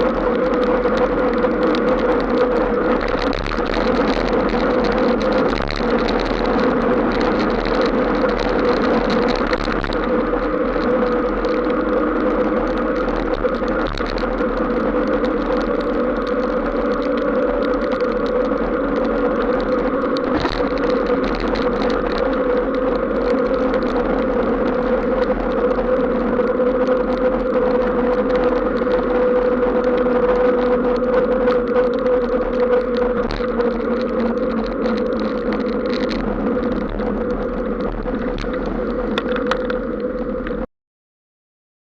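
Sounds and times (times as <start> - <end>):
constant road drone: 0.0 - 40.7.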